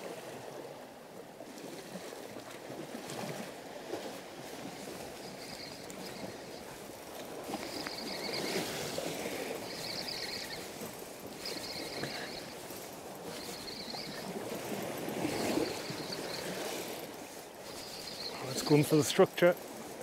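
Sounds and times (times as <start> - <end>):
sea surging against rocks: 0.0 - 20.0
fishing reel whirring: 3.1 - 20.0.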